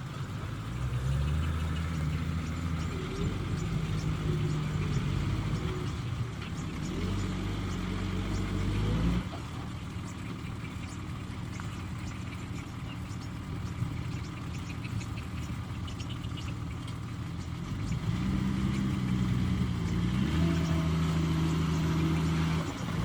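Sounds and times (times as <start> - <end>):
heavy diesel engine under load: 0.0 - 23.0.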